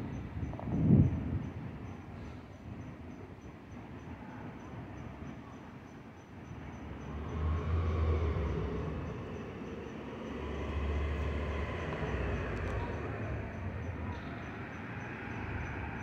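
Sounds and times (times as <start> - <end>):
light rail train rumbling: 0.0 - 16.0.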